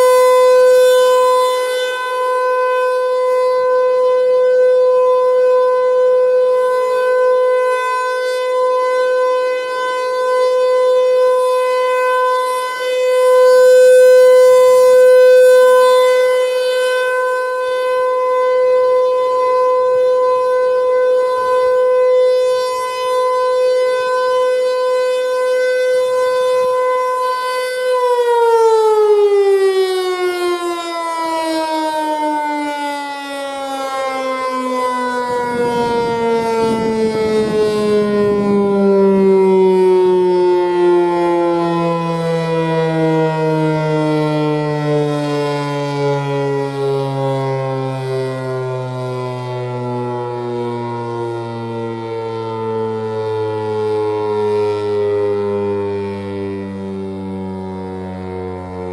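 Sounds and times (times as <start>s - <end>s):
rotating warning siren: 0.0s - 58.9s.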